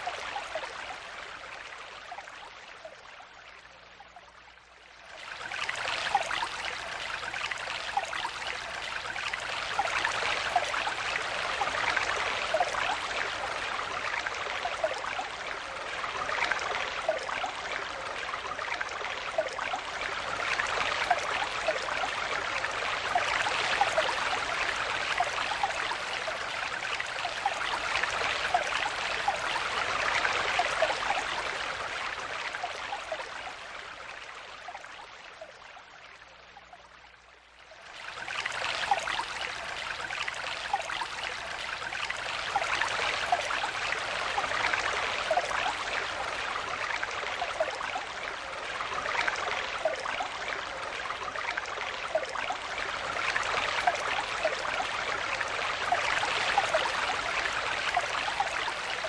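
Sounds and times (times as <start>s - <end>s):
stream trickling and gurgling: 0.0s - 59.0s.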